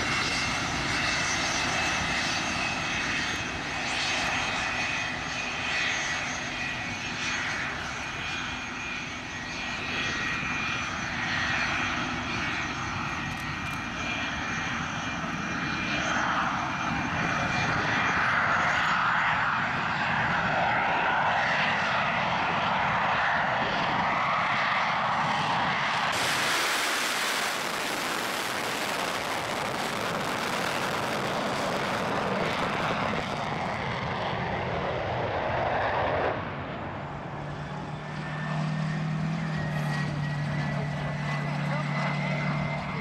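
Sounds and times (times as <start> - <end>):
jet engines rushing with whine: 0.0 - 43.0.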